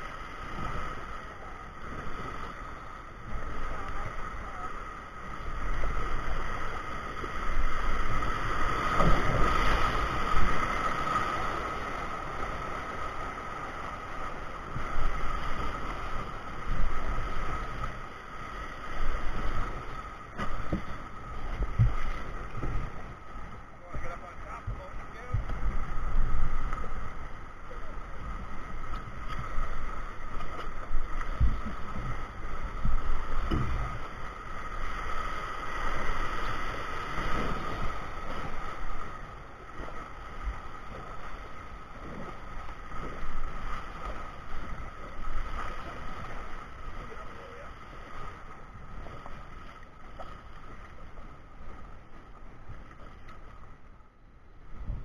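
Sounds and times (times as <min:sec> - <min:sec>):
rushing whitewater: 0:00.0 - 0:53.7
paddle strokes in water: 0:00.0 - 0:55.0
wind rumble on microphone: 0:00.0 - 0:55.0.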